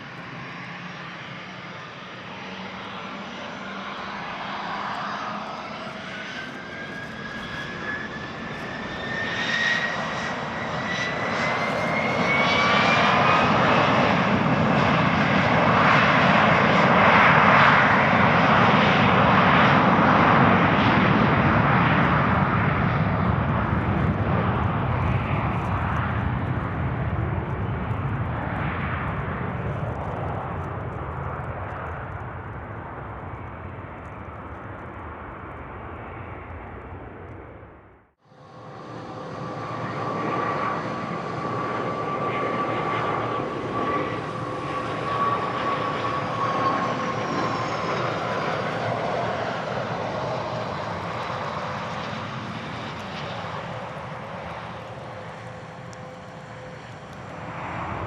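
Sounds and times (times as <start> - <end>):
jet engine turbine whine and roar: 0.0 - 58.0.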